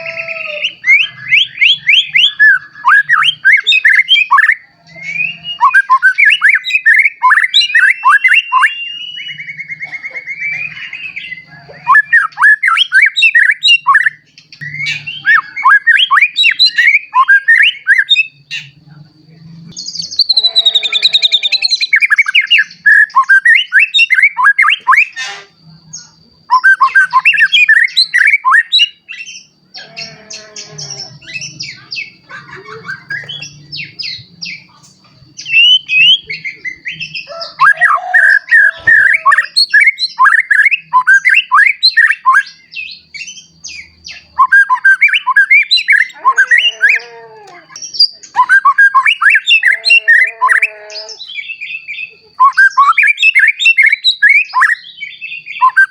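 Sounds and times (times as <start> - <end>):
bird singing whistled phrases: 0.0 - 18.7, 19.8 - 29.5, 35.4 - 55.9.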